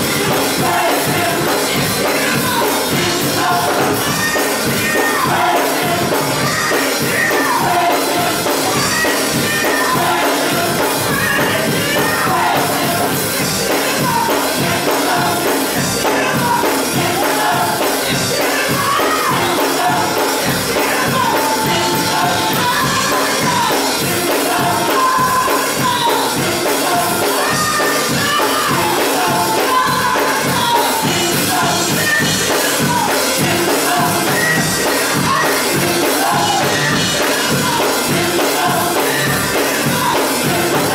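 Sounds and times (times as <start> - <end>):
gospel choir singing: 0.0 - 40.9
live band with steady beat: 0.0 - 40.9.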